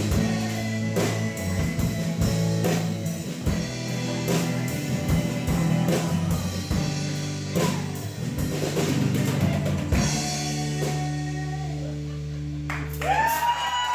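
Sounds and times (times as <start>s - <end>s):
live rock band playing: 0.0s - 13.8s.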